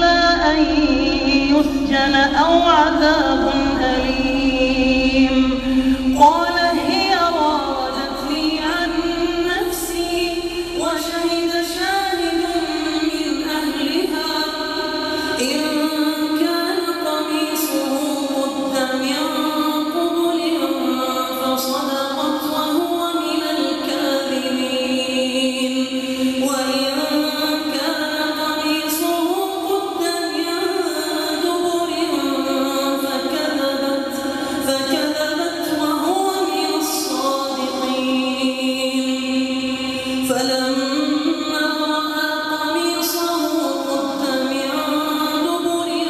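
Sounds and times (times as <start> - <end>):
person chanting melodically: 0.0 - 46.0.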